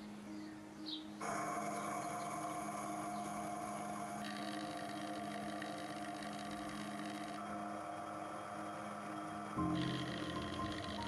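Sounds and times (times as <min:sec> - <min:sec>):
drill cutting hiss: 0:01.2 - 0:11.0
lathe motor hum: 0:01.2 - 0:11.0.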